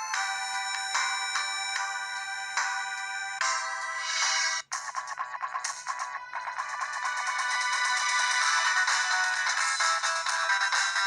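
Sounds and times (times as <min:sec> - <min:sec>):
electronic phone ringtone: 0:00.0 - 0:04.6, 0:05.2 - 0:11.0.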